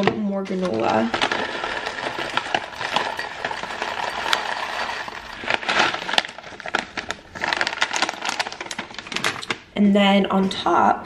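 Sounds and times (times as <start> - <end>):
granola rattling into jar: 0.0 - 9.6
pouch crinkling: 0.6 - 9.7.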